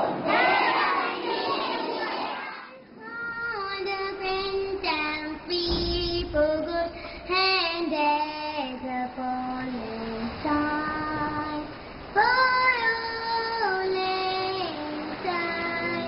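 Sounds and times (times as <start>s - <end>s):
girl singing: 0.4s - 16.0s.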